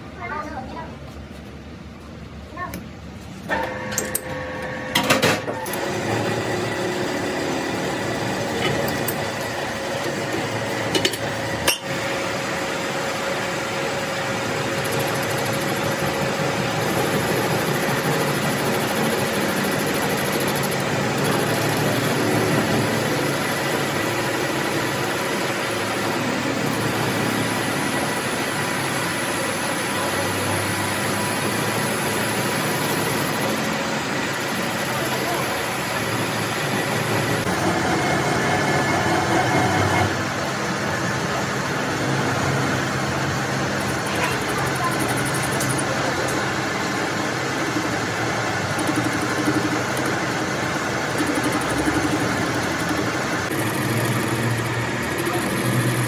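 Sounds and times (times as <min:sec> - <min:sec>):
machine whining: 0:03.5 - 0:56.0.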